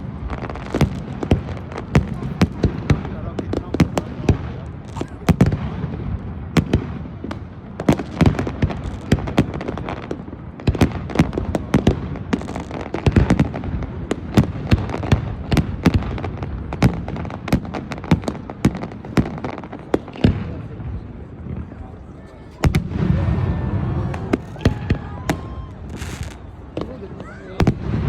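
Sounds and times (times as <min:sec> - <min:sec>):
distant fireworks rumble: 0:00.0 - 0:28.0
fireworks bangs and crackles: 0:00.0 - 0:28.0.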